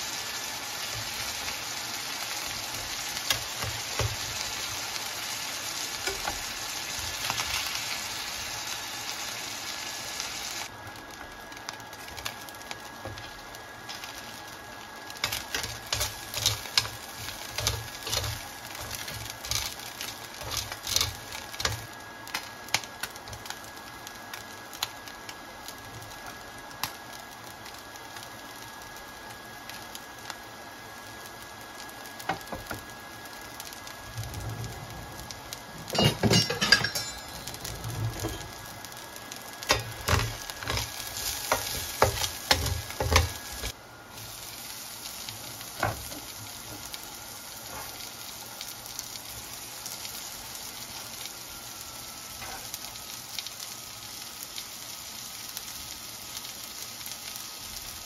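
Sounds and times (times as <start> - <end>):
garlic sizzling in a frying pan: 0.0 - 58.0.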